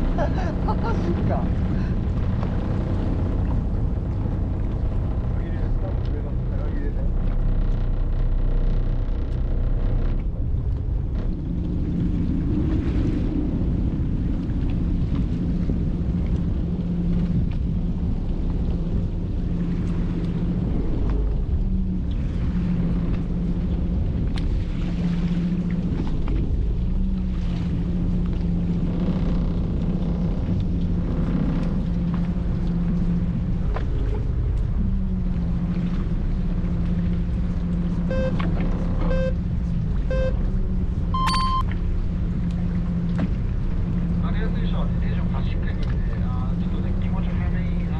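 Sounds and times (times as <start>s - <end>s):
boat engine droning: 0.0s - 47.9s
water noise: 0.0s - 47.9s
wind: 0.0s - 47.9s.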